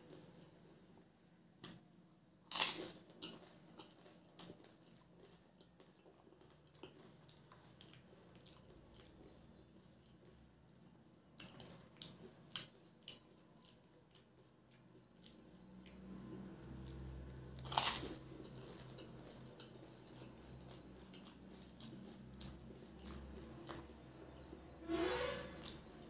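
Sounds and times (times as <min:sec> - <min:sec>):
wet crunching and chewing: 0:02.5 - 0:24.7.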